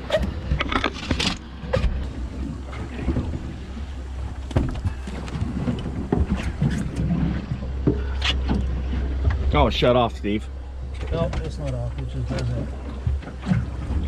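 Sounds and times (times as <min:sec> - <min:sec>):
outboard motor idling: 0:00.0 - 0:14.0.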